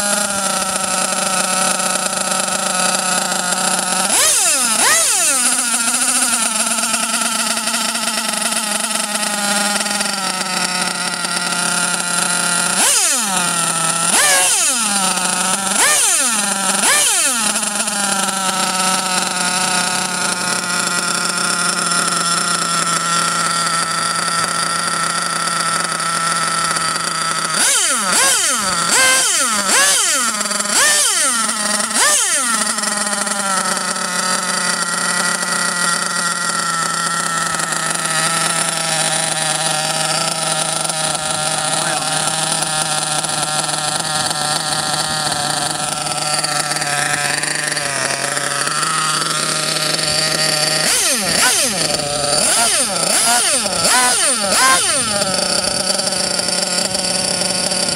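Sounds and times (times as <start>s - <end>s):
model engine idling and revving: 0.0s - 57.9s.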